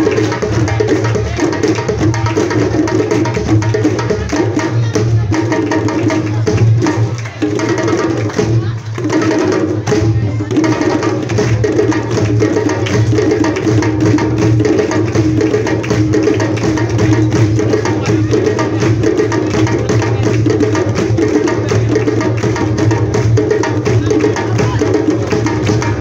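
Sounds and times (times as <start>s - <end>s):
djembe drums playing: 0.0s - 26.0s.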